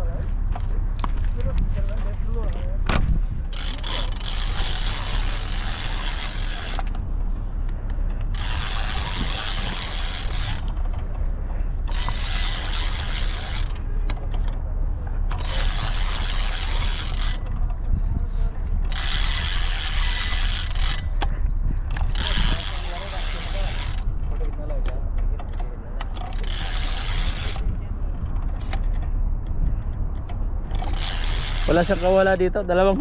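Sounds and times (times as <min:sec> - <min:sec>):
wind rumble on microphone: 0:00.0 - 0:33.0
fishing reel gears whirring: 0:03.3 - 0:32.6.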